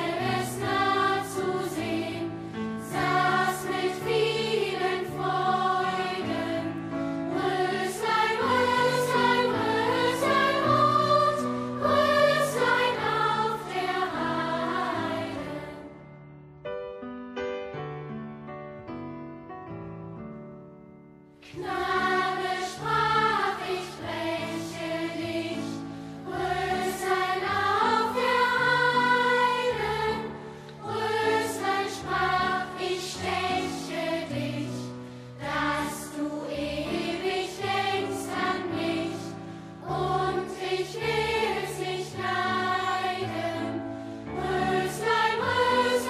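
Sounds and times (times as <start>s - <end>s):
choir singing with accompaniment: 0.0s - 16.1s, 21.4s - 46.0s.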